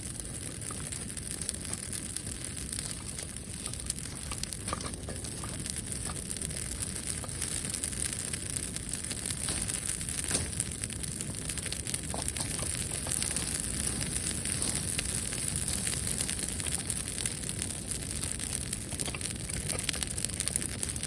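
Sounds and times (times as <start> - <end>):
bonfire crackling and popping: 0.0 - 21.0
steady fire hiss: 0.0 - 21.0.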